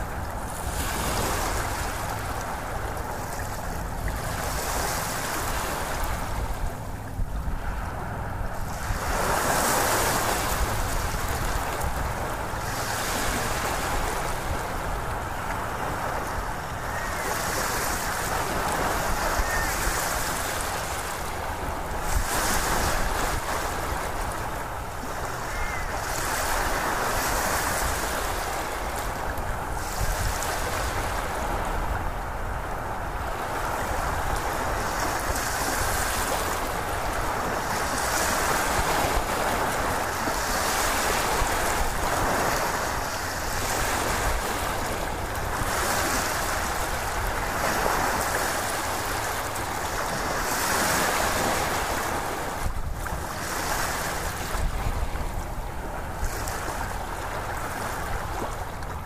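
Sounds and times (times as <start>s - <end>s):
waves breaking: 0.0s - 59.0s.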